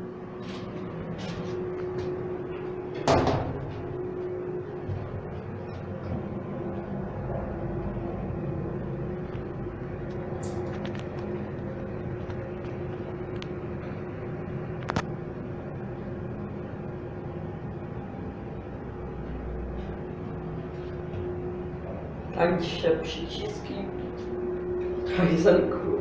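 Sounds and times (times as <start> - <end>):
lift hum with constant tone: 0.0 - 26.0.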